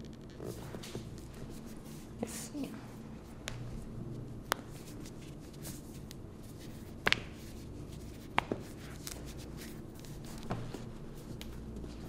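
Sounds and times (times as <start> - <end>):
hands rustling: 0.5 - 12.0.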